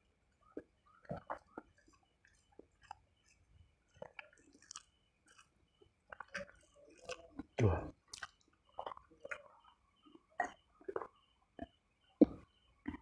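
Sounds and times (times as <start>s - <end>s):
faint chewing with wet clicks: 0.0s - 13.0s.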